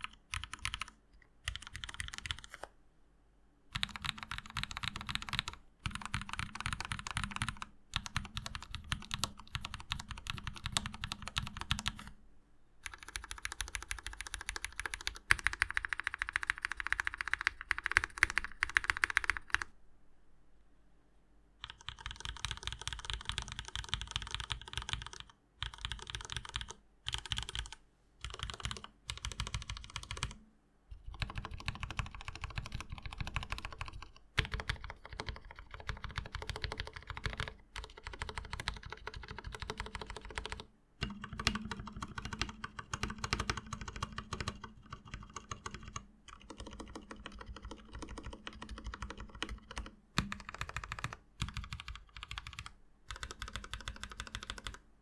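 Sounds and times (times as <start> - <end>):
mechanical keyboard typing: 0.0 - 2.7, 3.7 - 12.2, 12.8 - 19.7, 21.6 - 54.8.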